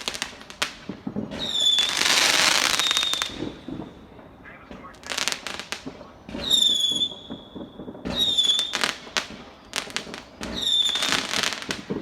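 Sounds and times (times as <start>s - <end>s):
firework crackling bangs: 0.0s - 12.0s
firework whistling: 0.0s - 12.0s.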